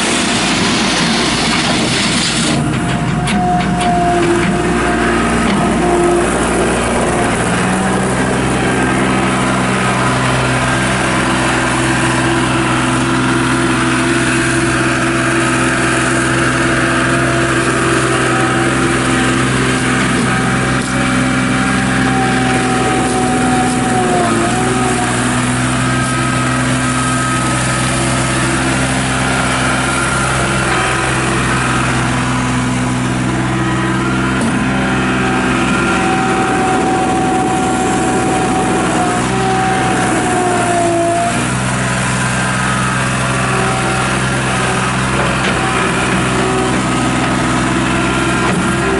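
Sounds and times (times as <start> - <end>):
diesel engine running: 0.0 - 48.9
thin whine: 0.0 - 48.9.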